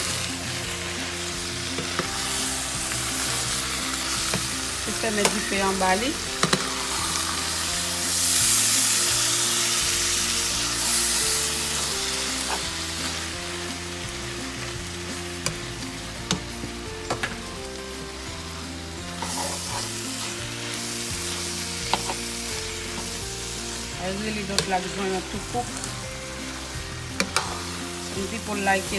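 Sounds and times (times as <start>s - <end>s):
food sizzling in a frying pan: 0.0s - 28.9s.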